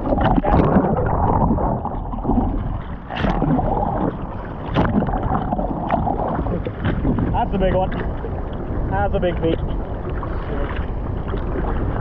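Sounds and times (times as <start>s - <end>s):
sea water sloshing and splashing: 0.0s - 12.0s
wind on microphone: 0.0s - 12.0s.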